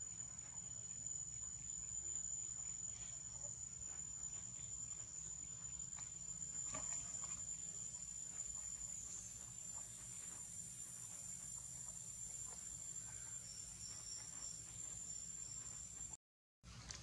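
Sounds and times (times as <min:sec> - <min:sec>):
high-pitched insect drone: 0:00.0 - 0:16.2
insect chirps: 0:00.0 - 0:16.2.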